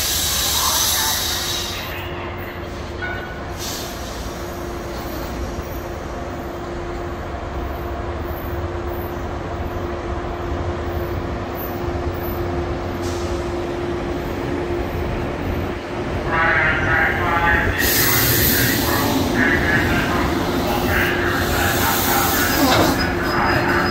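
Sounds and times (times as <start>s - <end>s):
steady train hum: 0.0s - 23.9s
train wheels rumbling: 0.0s - 23.9s.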